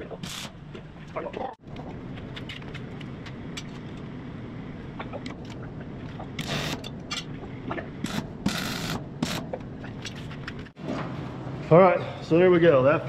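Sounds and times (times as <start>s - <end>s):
low shop hum: 0.0s - 13.0s.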